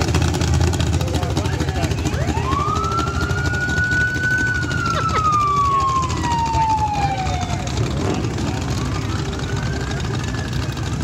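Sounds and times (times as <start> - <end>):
vehicles passing: 0.0 - 11.0
siren wailing: 2.0 - 11.0.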